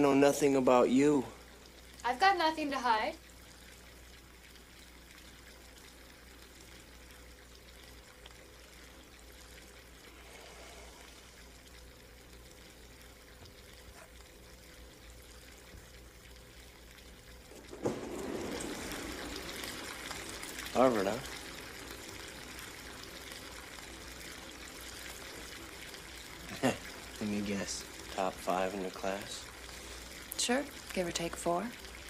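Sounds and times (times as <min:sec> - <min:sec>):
running tap water: 0:00.0 - 0:32.0.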